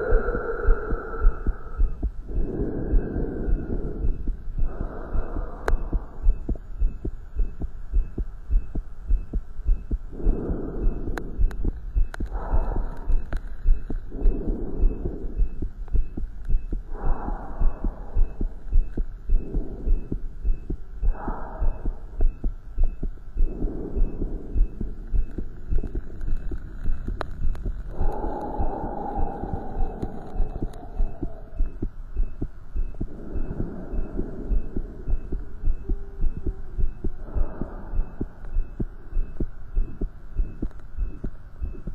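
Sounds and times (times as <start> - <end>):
heartbeat thumps: 0.0 - 41.9.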